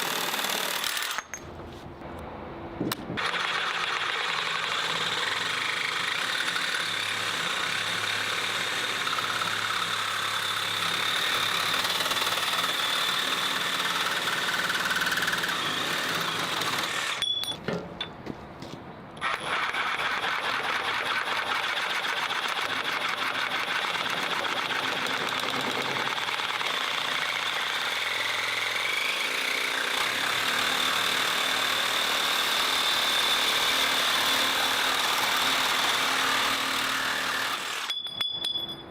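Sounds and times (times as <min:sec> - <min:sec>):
reciprocating saw running: 0:03.2 - 0:17.2, 0:19.2 - 0:38.0.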